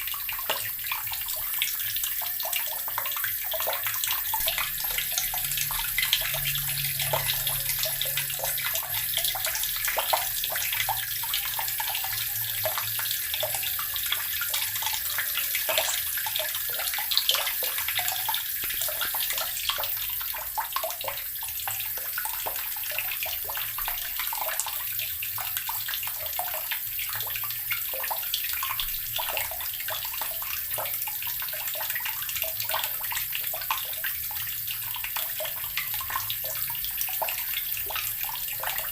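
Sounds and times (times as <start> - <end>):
tap water pouring into barrel: 0.0 - 38.9.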